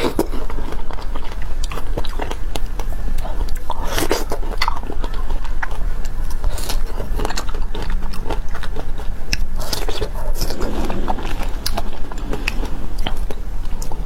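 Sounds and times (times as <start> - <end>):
chewing with mouth clicks: 0.0 - 14.0.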